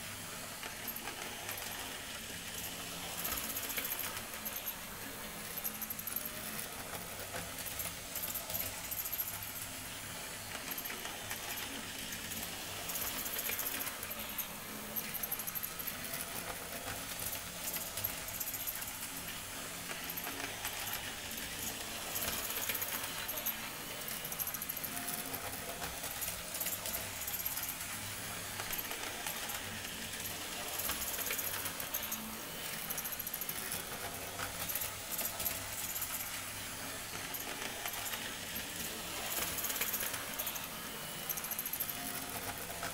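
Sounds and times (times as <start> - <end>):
model train motor hum: 0.0 - 42.9.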